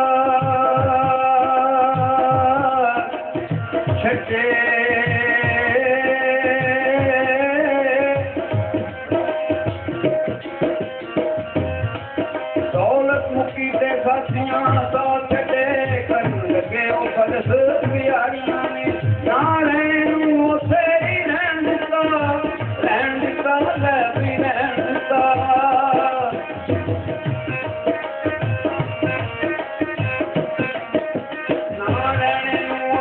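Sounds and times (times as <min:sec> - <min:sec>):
instrumental folk melody: 0:00.0 - 0:33.0.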